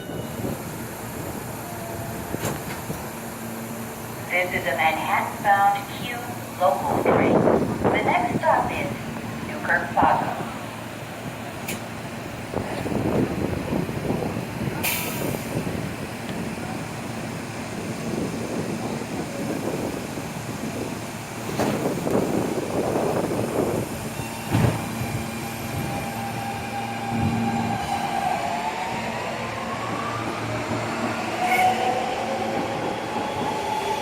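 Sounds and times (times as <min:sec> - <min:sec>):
subway train wheels rumbling: 0:00.0 - 0:34.0.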